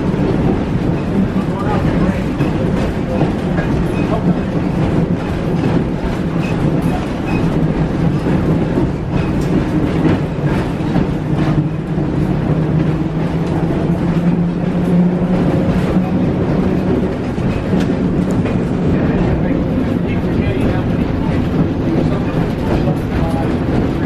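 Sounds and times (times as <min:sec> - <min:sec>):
streetcar hum and rumble: 0:00.0 - 0:24.0
wheels clicking over rail joints: 0:00.0 - 0:24.0.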